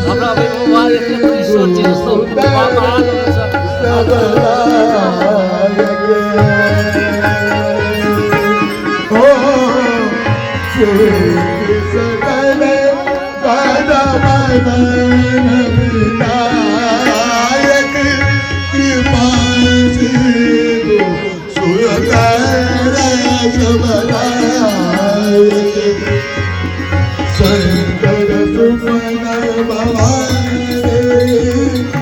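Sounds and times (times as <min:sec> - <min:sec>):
person singing devotional melody: 0:00.0 - 0:32.0
tabla beat: 0:00.0 - 0:32.0.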